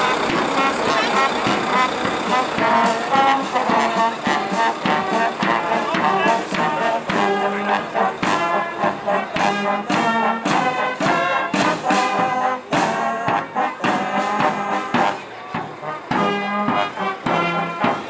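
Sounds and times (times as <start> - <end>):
brass band playing: 0.0 - 18.0
steady drum beat: 0.0 - 18.0.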